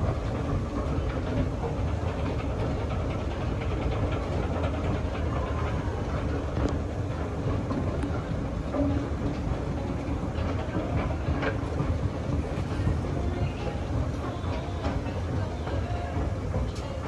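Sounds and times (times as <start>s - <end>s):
escalator rumbling: 0.0s - 17.0s.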